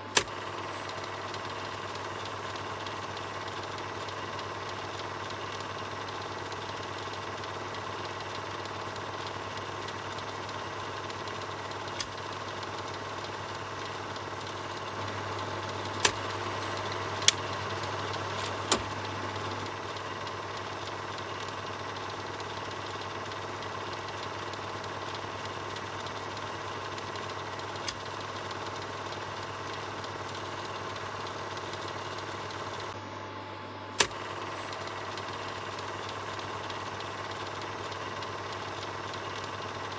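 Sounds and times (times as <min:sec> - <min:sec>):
projector sharp clicks: 0:00.0 - 0:33.0, 0:34.0 - 0:39.9
film projector whirring: 0:00.0 - 0:39.9.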